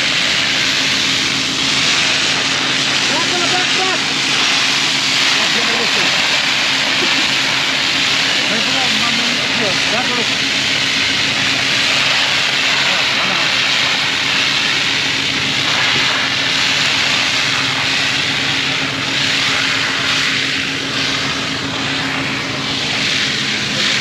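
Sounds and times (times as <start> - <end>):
loud even hiss: 0.0 - 24.0
machine engine running: 0.0 - 24.0.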